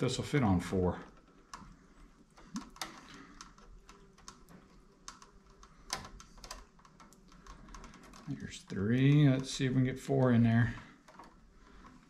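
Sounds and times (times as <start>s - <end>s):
wires clicking and scraping: 0.0s - 12.0s.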